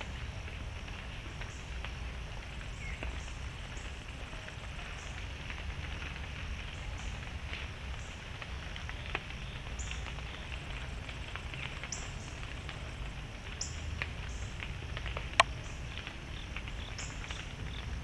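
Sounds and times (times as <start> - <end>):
deer moving in leaf litter: 0.0 - 18.0.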